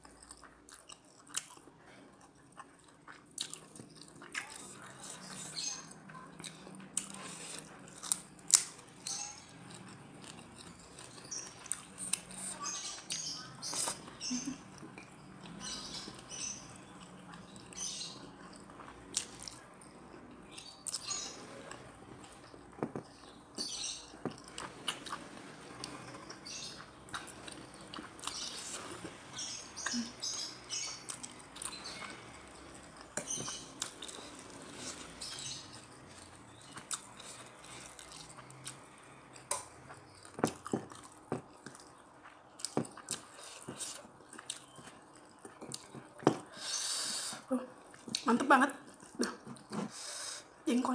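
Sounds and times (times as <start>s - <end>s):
wet chewing: 0.0s - 50.0s.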